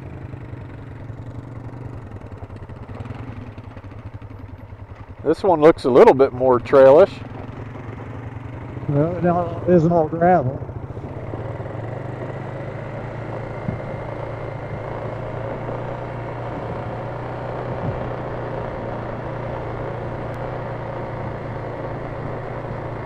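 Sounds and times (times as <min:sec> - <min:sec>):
atv engine droning: 0:00.0 - 0:23.0.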